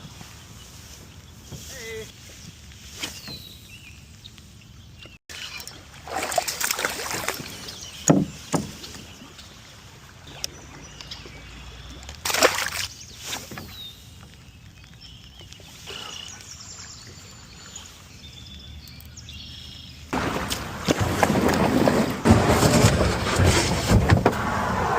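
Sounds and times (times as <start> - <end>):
water sloshing around kayak: 4.5 - 24.9.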